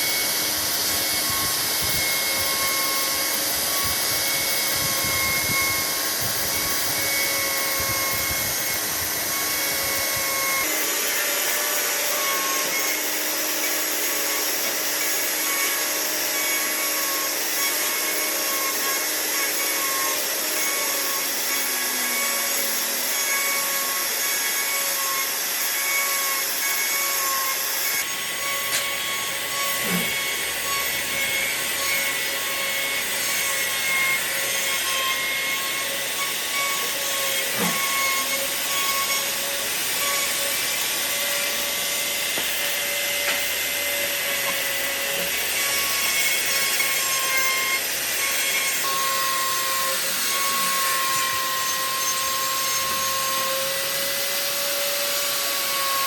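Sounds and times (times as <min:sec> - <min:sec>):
power tool motor whine: 0:00.0 - 0:56.0.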